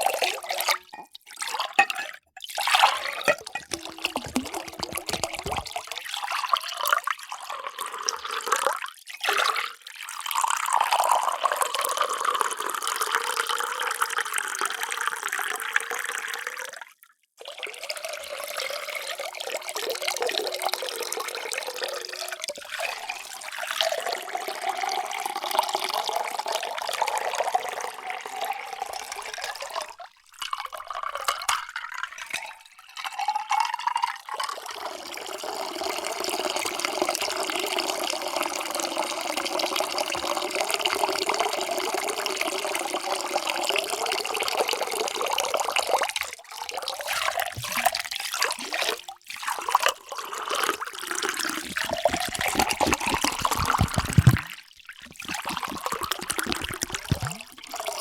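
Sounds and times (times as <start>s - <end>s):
water pouring into a vessel: 0.0s - 16.8s, 17.4s - 58.0s.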